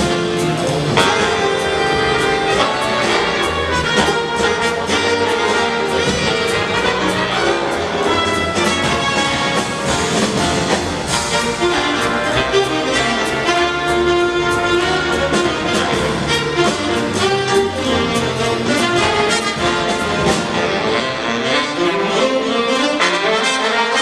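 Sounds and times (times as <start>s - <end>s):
drum kit beat: 0.0s - 21.3s
brass chords: 0.0s - 24.0s.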